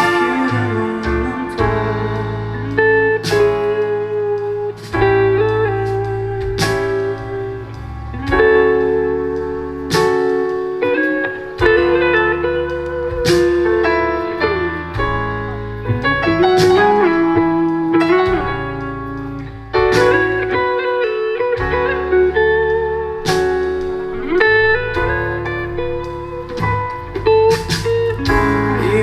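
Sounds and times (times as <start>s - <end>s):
guitar melody with sliding notes: 0.0s - 29.0s
steady bass: 0.0s - 29.0s.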